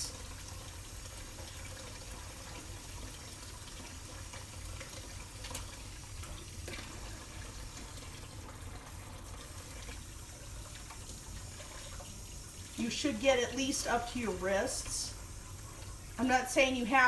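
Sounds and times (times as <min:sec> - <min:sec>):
tap water running: 0:00.0 - 0:17.0.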